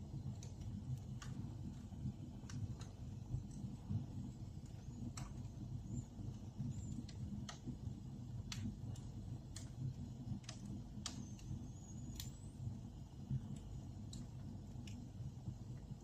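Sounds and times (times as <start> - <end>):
fire crackling and popping: 0.0 - 16.0
rumble of flames: 0.0 - 16.0.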